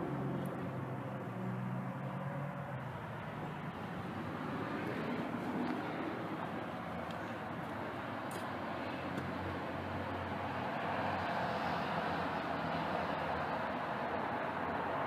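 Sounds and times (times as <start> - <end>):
passing vehicle engine hum: 0.0 - 15.0
tyres rushing on road: 0.0 - 15.0.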